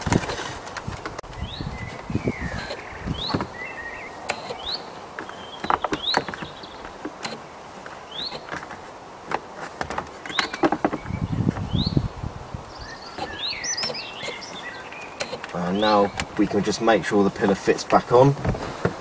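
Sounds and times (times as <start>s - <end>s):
bird chirping: 1.2s - 8.7s, 10.2s - 18.0s.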